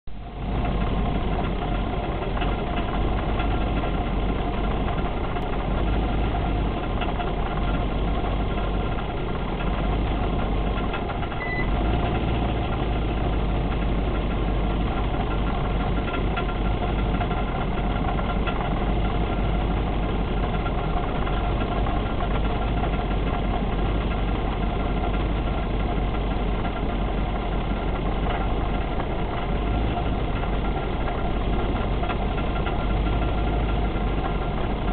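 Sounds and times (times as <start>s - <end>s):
car engine rumbling: 0.0s - 34.9s.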